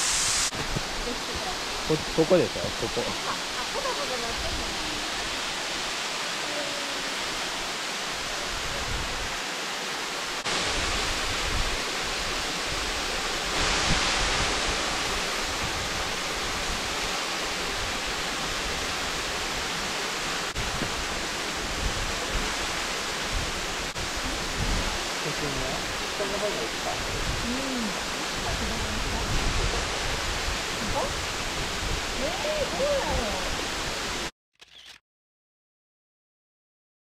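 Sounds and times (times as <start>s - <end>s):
waterfall rushing: 0.0s - 34.3s.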